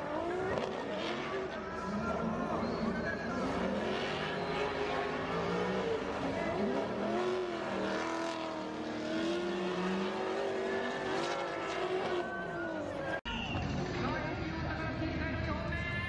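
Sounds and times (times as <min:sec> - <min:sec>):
car engines revving: 0:00.0 - 0:14.9.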